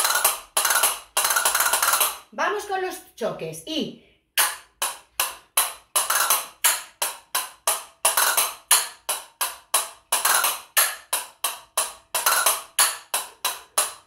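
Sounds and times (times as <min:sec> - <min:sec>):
castanets clacking: 0:00.0 - 0:02.2, 0:04.4 - 0:14.0.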